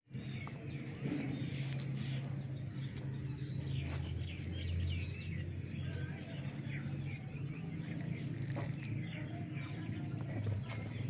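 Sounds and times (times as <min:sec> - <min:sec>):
birds chirping faintly: 0:00.1 - 0:11.0.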